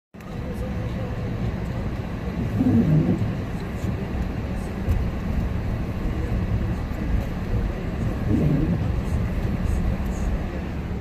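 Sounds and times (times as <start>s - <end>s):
car driving on snowy road: 0.2s - 11.0s.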